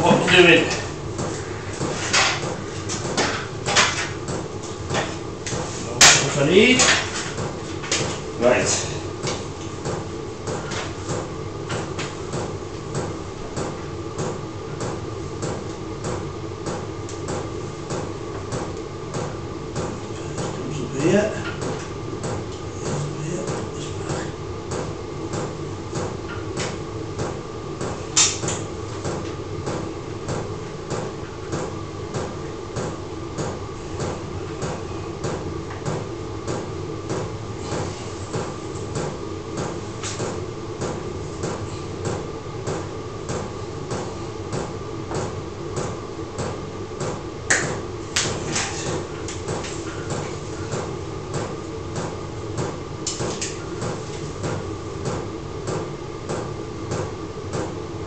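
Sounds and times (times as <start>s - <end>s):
heater humming: 0.0s - 58.0s.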